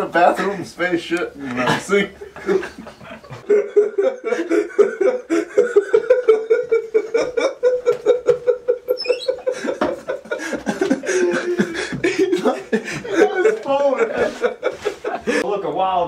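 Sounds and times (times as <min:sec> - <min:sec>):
continuous laughter: 0:01.5 - 0:15.5.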